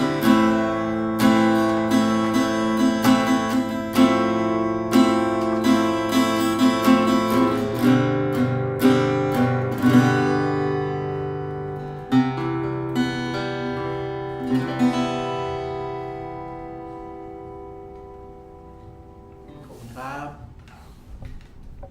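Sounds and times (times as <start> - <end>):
acoustic guitar strummed: 0.0 - 19.8.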